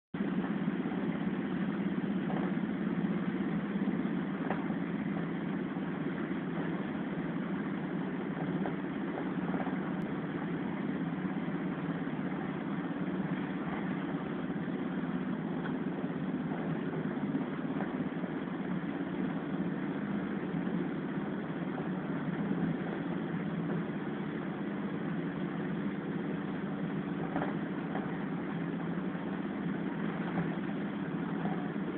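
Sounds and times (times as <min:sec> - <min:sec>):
train rumbling inside carriage: 0:00.2 - 0:31.9.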